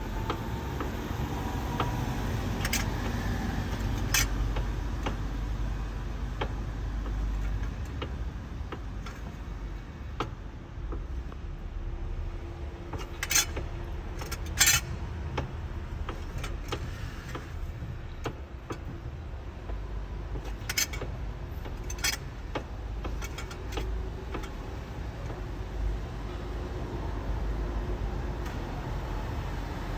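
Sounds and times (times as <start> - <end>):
steering metallic clunks: 0.0 - 29.9.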